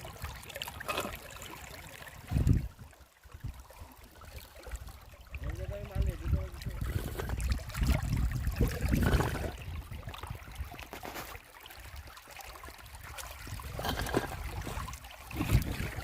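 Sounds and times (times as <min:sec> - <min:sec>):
river water splashing: 0:00.0 - 0:05.8, 0:06.5 - 0:16.0.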